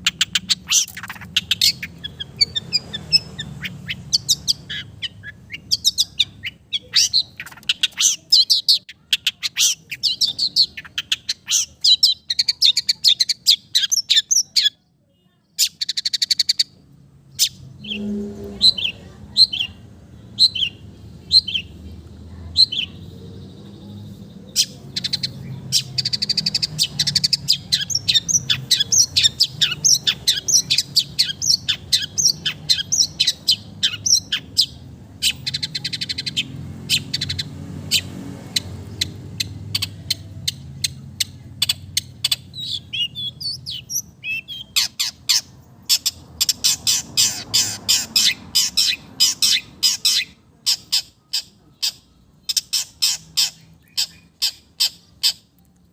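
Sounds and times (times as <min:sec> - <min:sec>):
bird singing chirps and trills: 0:00.0 - 0:55.9.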